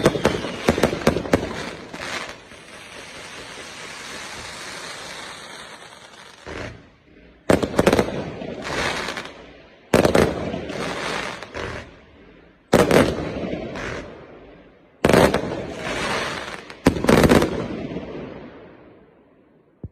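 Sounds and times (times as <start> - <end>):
fireworks crackle: 0.0 - 12.0, 12.7 - 14.2, 15.0 - 17.6
fireworks bursts: 0.0 - 18.3.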